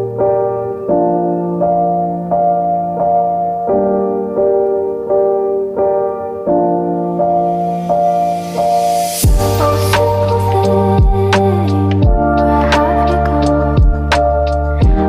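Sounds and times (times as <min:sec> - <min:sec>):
piano chords repeating: 0:00.0 - 0:15.0.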